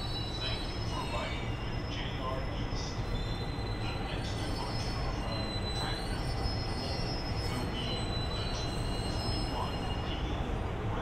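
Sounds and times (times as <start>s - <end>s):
train rumbling: 0.0s - 11.0s
wheels squealing on rails: 0.0s - 11.0s.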